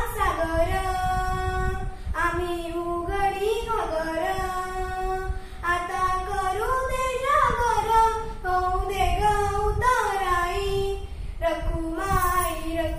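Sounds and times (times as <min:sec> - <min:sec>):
girl singing solo: 0:00.0 - 0:12.9.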